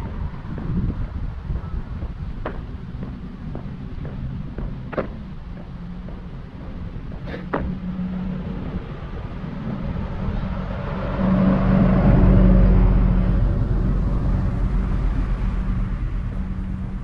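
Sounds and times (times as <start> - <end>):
bus engine drone passing: 0.0 - 17.0.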